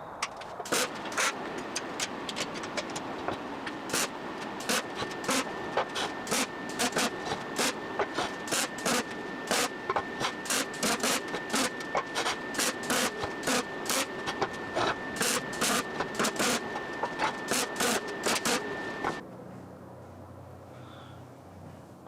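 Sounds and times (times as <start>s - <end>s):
machine high whine: 0.0s - 19.3s.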